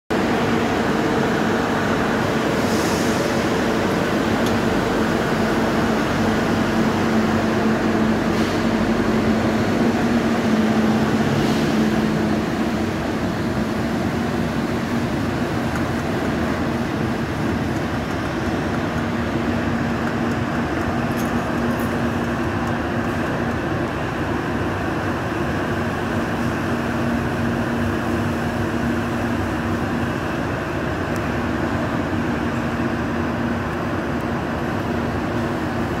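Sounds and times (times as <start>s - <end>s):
city traffic noise: 0.1s - 36.0s
monorail train humming: 0.1s - 36.0s.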